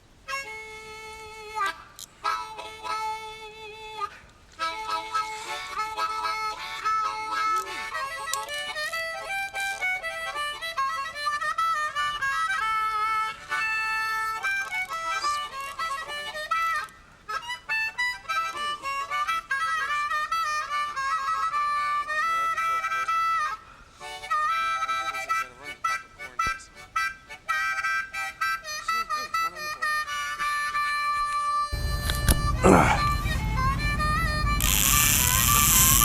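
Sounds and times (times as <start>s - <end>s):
harmonica melody: 0.0s - 36.0s.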